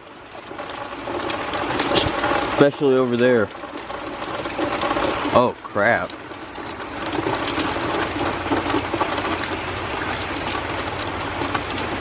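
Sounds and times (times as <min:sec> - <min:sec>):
raindrops ticking on hard surface: 0:00.0 - 0:12.0
steady rain hiss: 0:00.0 - 0:12.0.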